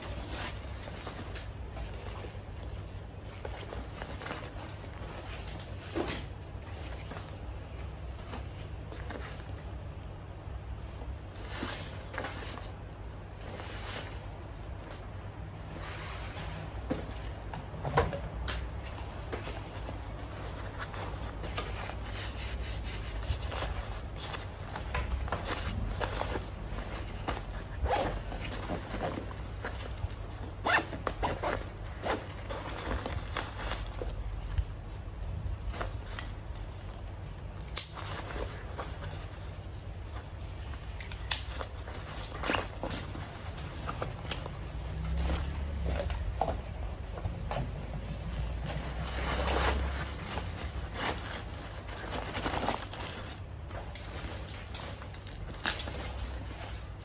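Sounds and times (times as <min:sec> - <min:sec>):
fabric backpack rustling: 0:00.0 - 0:10.0, 0:10.7 - 0:57.0.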